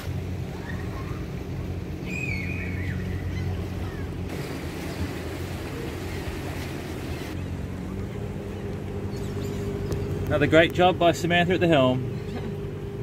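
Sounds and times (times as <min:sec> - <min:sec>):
diesel boat engine running: 0:00.0 - 0:13.0
water noise: 0:00.0 - 0:13.0
wind: 0:00.0 - 0:13.0.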